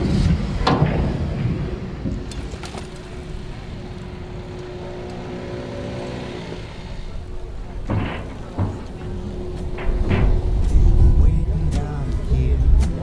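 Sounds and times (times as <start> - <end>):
vehicle engine running: 1.6 - 13.0.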